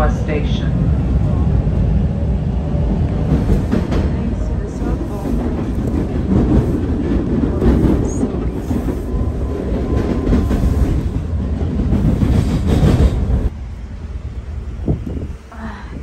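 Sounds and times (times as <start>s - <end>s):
subway train wheels rumbling: 0.0s - 16.0s.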